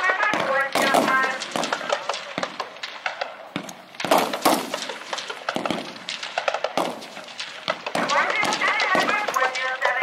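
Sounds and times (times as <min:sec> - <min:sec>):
rifle shots cracking: 0:00.0 - 0:10.0.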